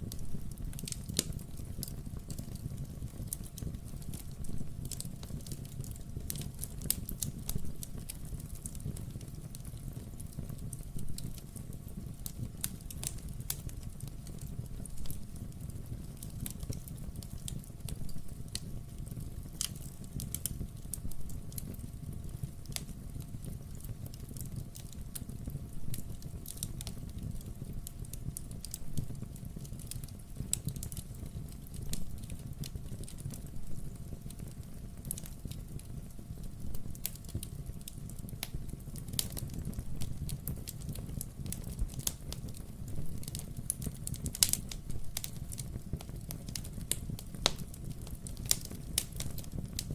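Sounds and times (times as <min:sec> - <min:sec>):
fire flames rumbling: 0:00.0 - 0:49.9
logs crackling and popping: 0:00.0 - 0:49.9.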